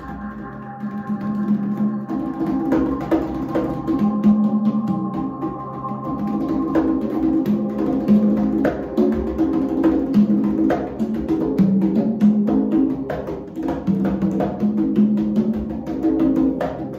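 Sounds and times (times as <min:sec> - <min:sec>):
ambient backing track: 0:00.0 - 0:16.9
congas played with hands: 0:00.0 - 0:16.9.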